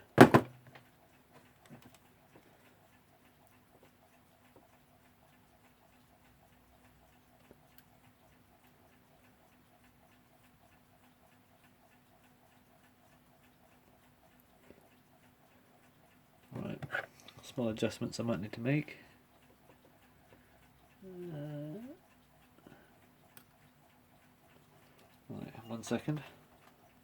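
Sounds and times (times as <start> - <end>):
alarm clock ticking faintly: 0.8 - 27.0.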